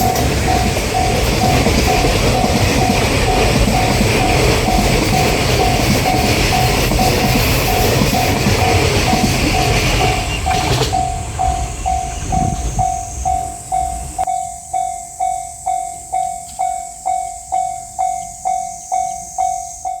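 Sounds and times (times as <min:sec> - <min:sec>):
freight train rumbling past: 0:00.0 - 0:16.2
level crossing warning bell: 0:00.0 - 0:20.0.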